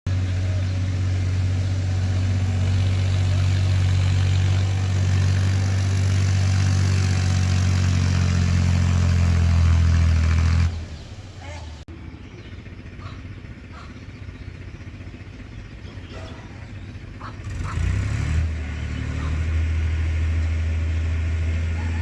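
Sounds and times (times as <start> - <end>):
tractor engine running: 0.1 - 22.0.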